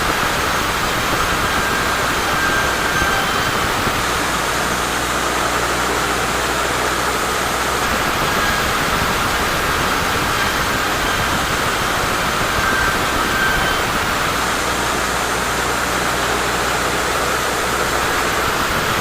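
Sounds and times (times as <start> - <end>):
sawmill saw cutting log: 0.0 - 19.0.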